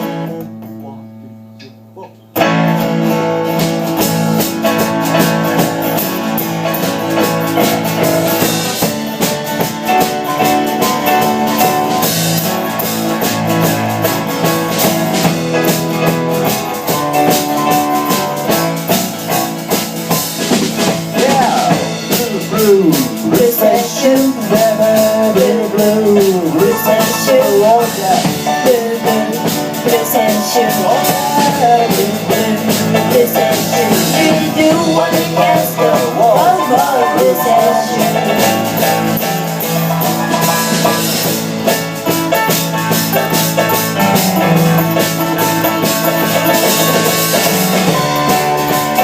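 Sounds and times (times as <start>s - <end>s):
rock band playing loud: 0.0s - 0.9s, 2.3s - 49.0s
wavering sliding lead guitar: 0.0s - 49.0s.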